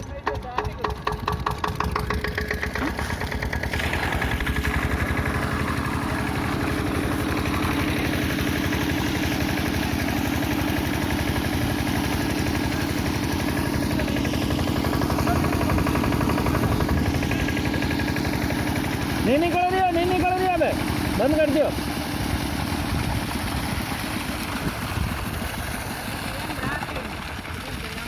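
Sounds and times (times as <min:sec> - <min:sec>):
diesel engine running steadily: 0:00.0 - 0:28.0.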